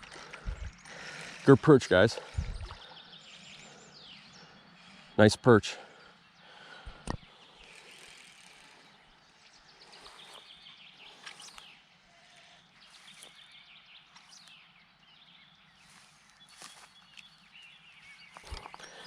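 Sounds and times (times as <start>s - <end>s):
faint birdsong chirps and trills: 0.0s - 19.0s.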